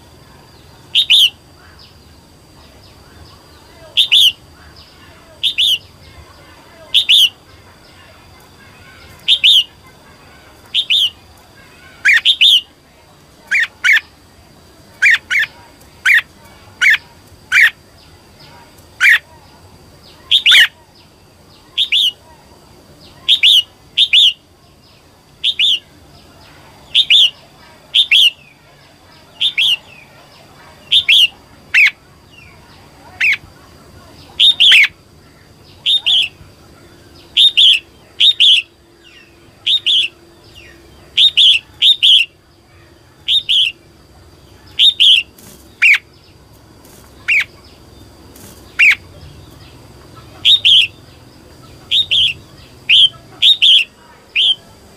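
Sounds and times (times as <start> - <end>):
bulbul sharp calls: 0.0 - 12.8, 13.4 - 54.9.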